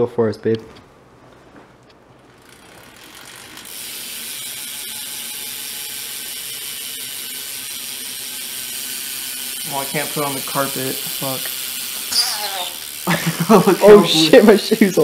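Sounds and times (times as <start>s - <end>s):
bicycle hub ratcheting buzz: 2.3s - 15.0s.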